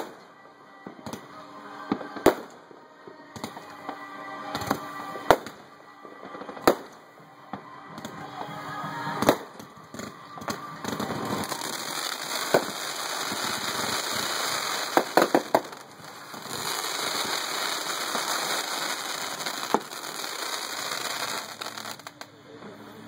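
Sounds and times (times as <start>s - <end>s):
firework bangs: 0.0s - 0.3s, 0.9s - 2.6s, 3.3s - 22.3s
crackling hiss of fireworks: 0.0s - 23.0s.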